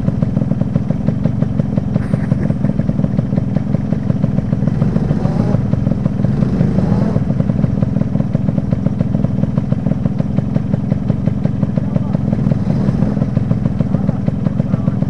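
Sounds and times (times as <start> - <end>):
faint engine revving: 0.0 - 15.0
motorcycle engine idling: 0.0 - 15.0.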